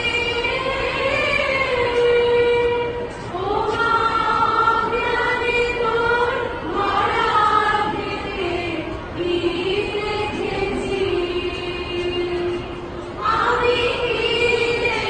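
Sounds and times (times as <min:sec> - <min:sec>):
girls singing in unison: 0:00.0 - 0:15.0.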